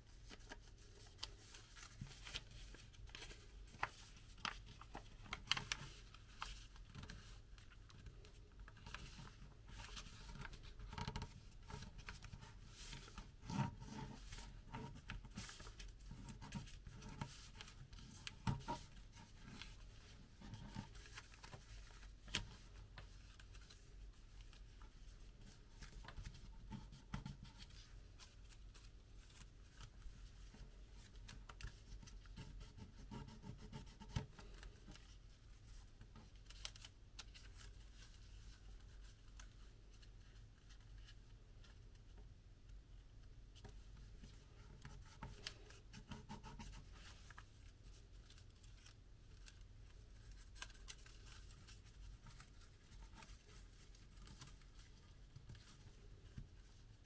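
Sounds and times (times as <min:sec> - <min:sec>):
paper creasing crackles: 0:00.0 - 0:41.2, 0:43.6 - 0:57.0
paper rustling and crinkling: 0:00.0 - 0:42.0, 0:43.6 - 0:57.0.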